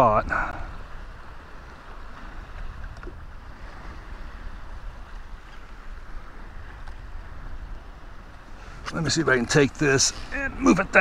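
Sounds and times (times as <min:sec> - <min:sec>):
small waves washing: 0:00.0 - 0:11.0
wind rushing over microphone: 0:00.0 - 0:11.0.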